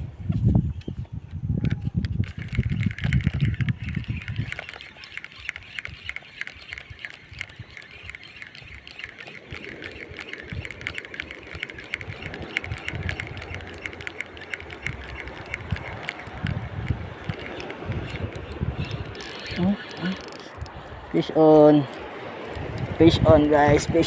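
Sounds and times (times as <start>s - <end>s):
fishing reel ticking: 2.0s - 23.8s.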